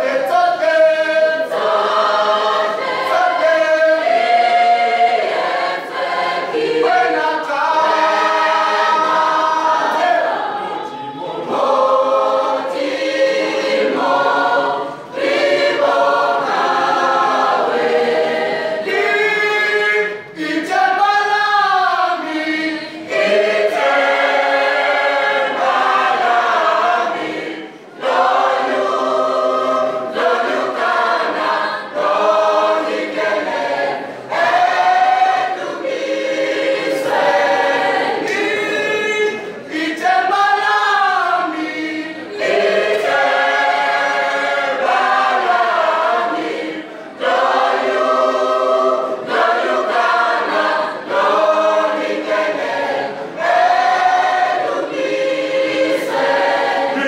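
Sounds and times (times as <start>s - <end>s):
children's choir singing a cappella: 0.0s - 57.0s.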